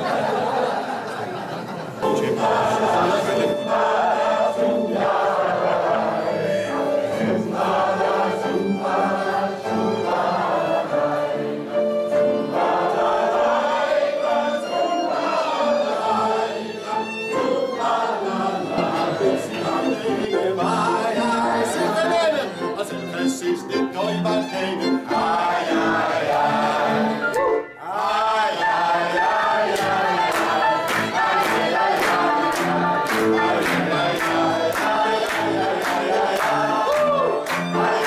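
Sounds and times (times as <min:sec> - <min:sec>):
crowd singing: 0:00.0 - 0:38.0.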